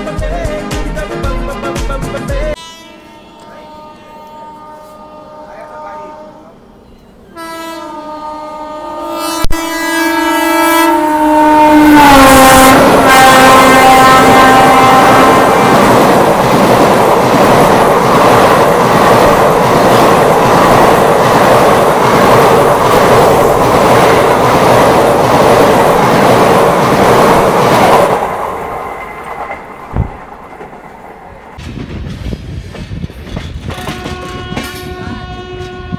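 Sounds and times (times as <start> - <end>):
passing train rushing and rattling: 0.0 - 35.9.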